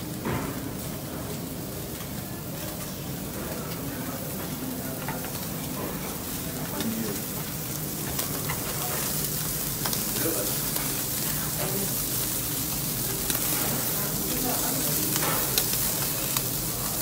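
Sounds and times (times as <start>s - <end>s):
meat sizzling on charcoal grill: 0.0s - 17.0s
small crackles: 0.1s - 17.0s.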